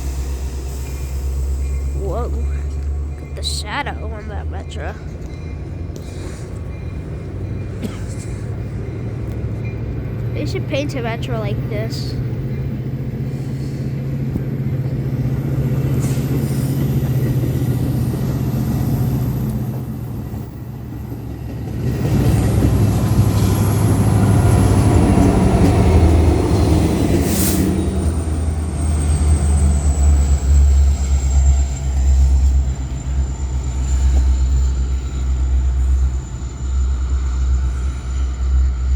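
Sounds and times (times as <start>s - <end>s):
train diesel hum: 0.0s - 38.9s
train rumble with rail noise: 0.0s - 38.9s.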